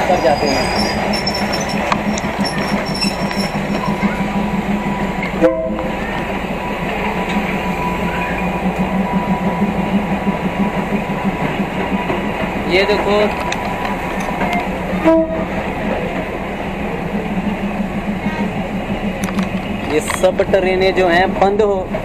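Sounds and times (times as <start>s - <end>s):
diesel train engine drone: 0.0s - 22.0s
train wheels rumbling: 0.0s - 22.0s.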